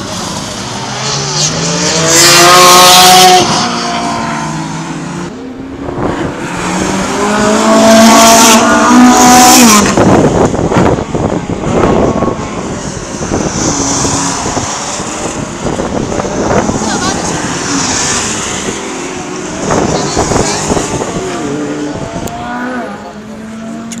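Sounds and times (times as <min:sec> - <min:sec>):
sports car engine passing: 0:00.2 - 0:24.0.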